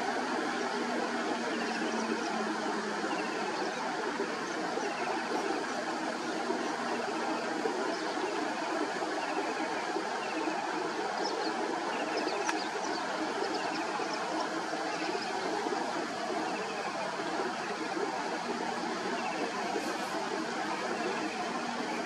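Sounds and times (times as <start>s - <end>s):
rushing wetland ambience: 0.0s - 22.0s.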